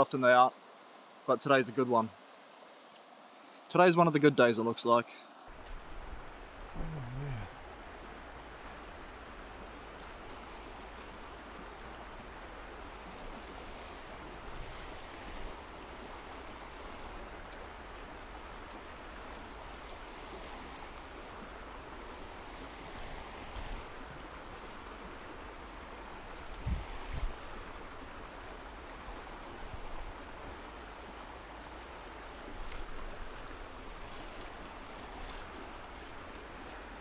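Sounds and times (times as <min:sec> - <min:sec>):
river flowing over stones: 0:05.3 - 0:37.0
high hiss: 0:05.5 - 0:37.0.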